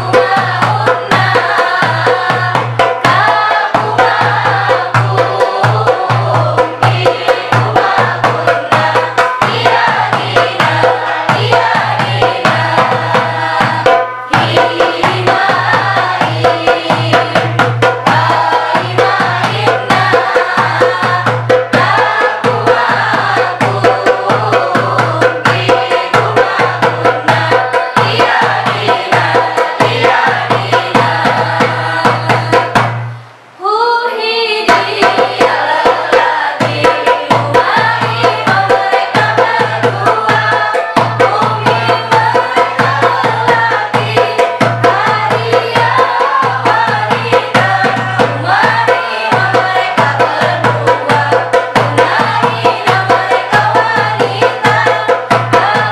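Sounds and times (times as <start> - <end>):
hand drum rhythm: 0.0 - 33.2, 34.7 - 55.9
students singing in unison: 0.0 - 55.9.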